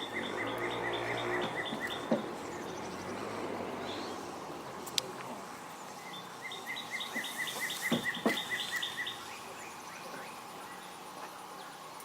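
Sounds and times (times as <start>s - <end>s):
bird chirping: 0.0s - 4.4s, 5.6s - 11.8s.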